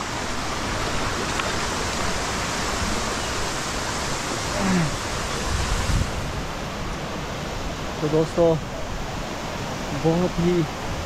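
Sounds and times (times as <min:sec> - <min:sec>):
rocky stream: 0:00.0 - 0:11.0
waterfall rushing: 0:00.0 - 0:11.0.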